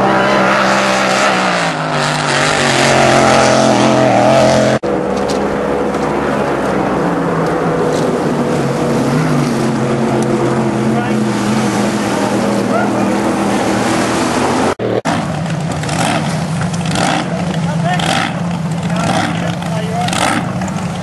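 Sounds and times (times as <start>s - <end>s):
low boat engine note: 0.0s - 21.0s
powerboat engines racing past: 0.0s - 21.0s.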